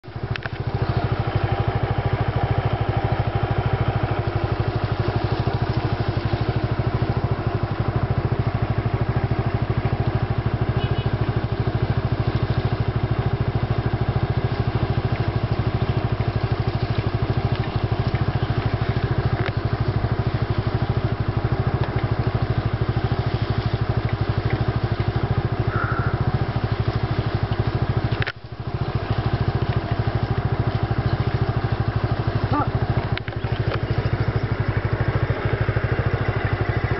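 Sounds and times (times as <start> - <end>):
small engine idling: 0.0 - 36.9.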